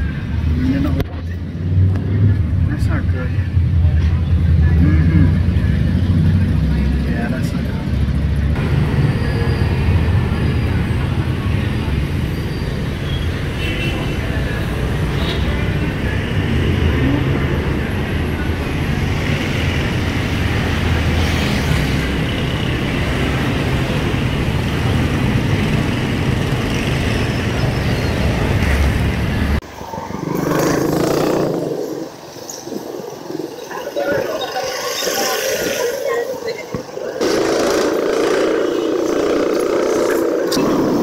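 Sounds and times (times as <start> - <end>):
motorcycles passing: 0.0 - 41.0
traffic rumble: 0.0 - 41.0.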